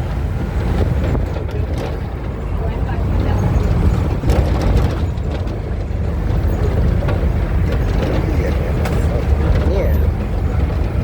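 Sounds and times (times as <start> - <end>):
bus diesel engine rumble: 0.0 - 11.0.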